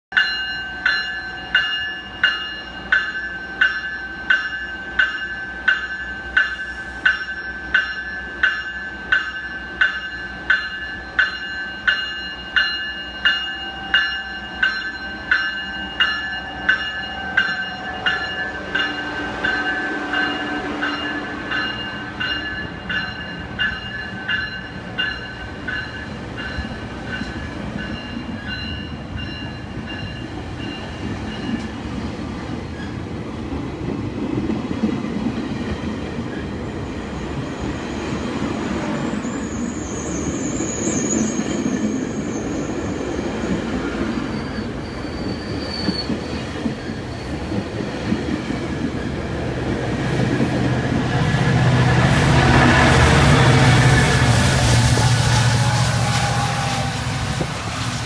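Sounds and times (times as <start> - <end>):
train bell ringing: 0.1 - 31.8, 39.1 - 58.0
train wheels rumbling: 0.5 - 58.0.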